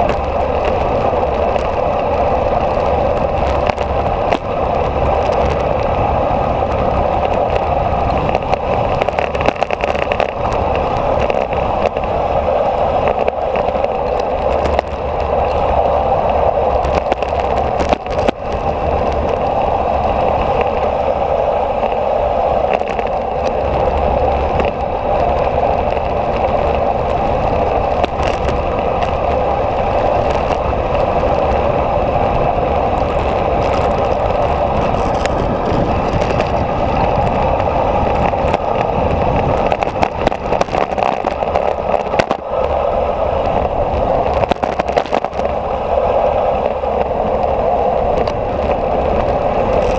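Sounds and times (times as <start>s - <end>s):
low rumble: 0.0s - 49.9s
wind and road noise: 0.0s - 49.9s.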